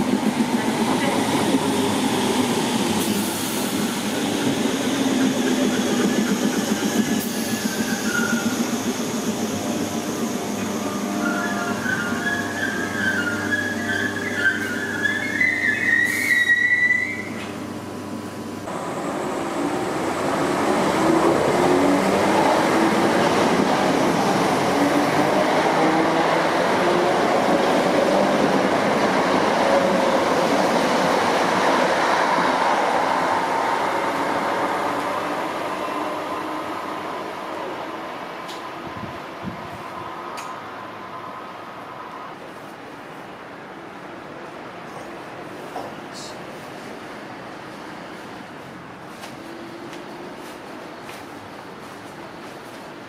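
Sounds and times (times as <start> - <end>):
train carriages and wheels rumbling: 0.0 - 17.7, 18.6 - 53.0.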